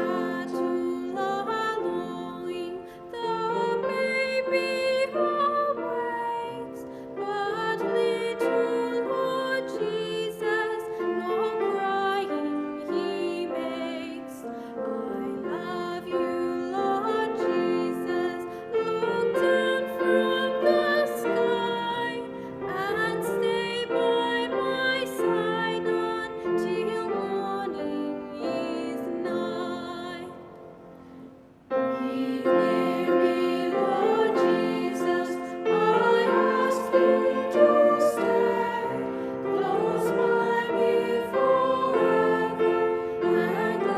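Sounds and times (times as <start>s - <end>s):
voices singing a carol: 0.0s - 30.5s, 31.9s - 43.9s
piano accompaniment: 0.0s - 43.9s.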